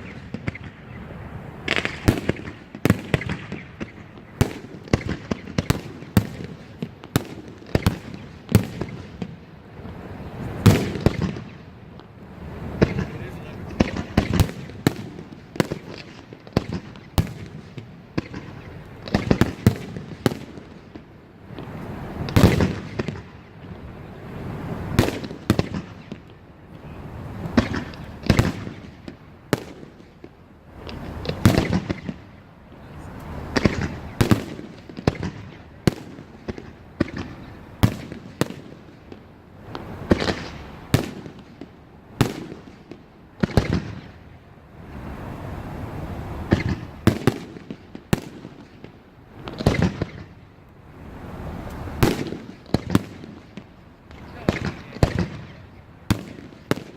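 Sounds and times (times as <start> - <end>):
heavy fireworks booms with echo: 0.0 - 11.7, 12.4 - 26.4, 27.3 - 44.2, 46.4 - 50.4, 51.9 - 56.9
fireworks sharp bangs: 0.0 - 50.5, 51.3 - 56.9.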